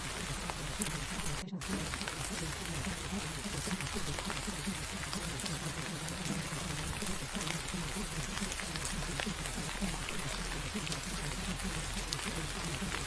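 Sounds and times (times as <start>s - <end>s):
muffled murmur of voice: 0.0s - 13.0s
rain falling: 0.0s - 13.0s
raindrop ticks: 0.0s - 13.0s.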